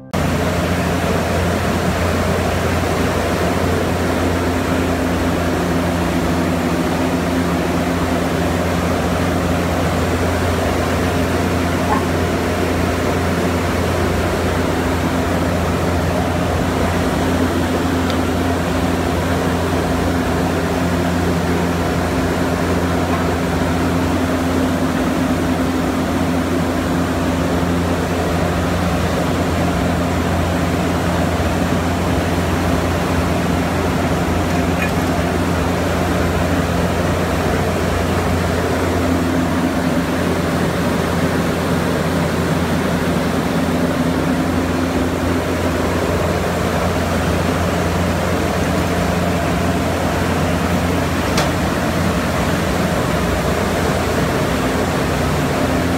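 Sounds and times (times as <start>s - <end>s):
workshop machinery humming: 0.0s - 55.9s.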